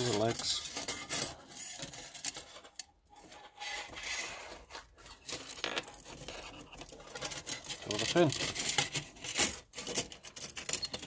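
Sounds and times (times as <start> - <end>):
metal clicks and scraping: 0.0 - 11.0
metal rubbing: 0.0 - 11.0.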